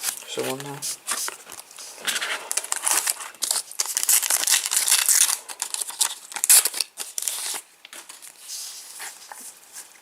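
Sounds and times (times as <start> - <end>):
card packet wrapper crinkling: 0.0 - 8.4.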